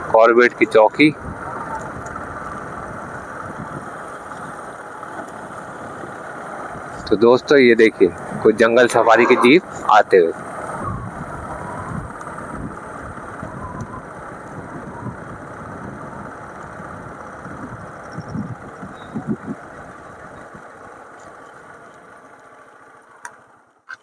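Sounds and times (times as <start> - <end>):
wind rumbling on microphone: 0.0 - 20.9
motorcycle engine and road noise: 0.0 - 24.0.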